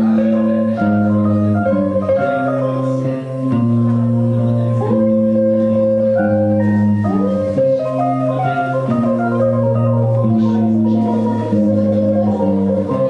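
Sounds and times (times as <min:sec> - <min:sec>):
electric guitar chords: 0:00.0 - 0:13.0
electric keyboard: 0:00.0 - 0:13.0.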